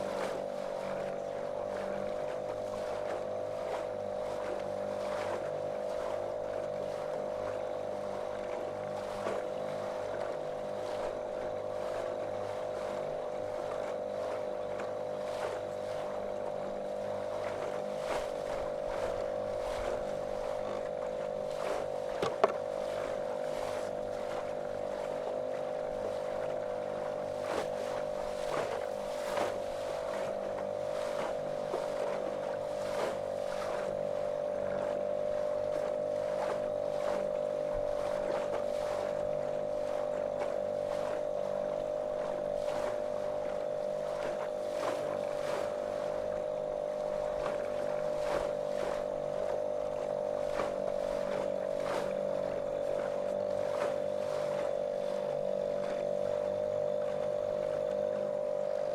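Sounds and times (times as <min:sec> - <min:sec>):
motorboat motor droning: 0:00.0 - 0:58.9
water slapping against hull: 0:00.0 - 0:58.9.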